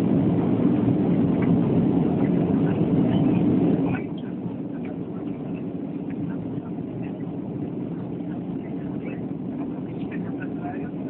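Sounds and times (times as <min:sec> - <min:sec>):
airplane low rumble: 0:00.0 - 0:11.0.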